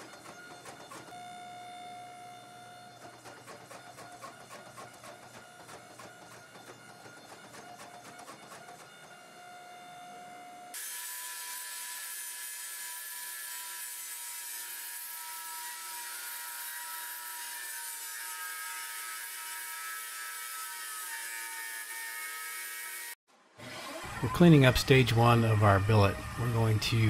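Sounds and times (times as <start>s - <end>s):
angle grinder cutting steel: 0.0s - 27.0s.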